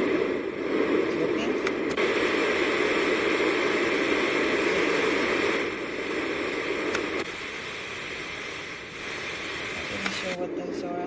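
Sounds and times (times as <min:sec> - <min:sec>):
white noise machine rushing noise: 0:00.0 - 0:11.0.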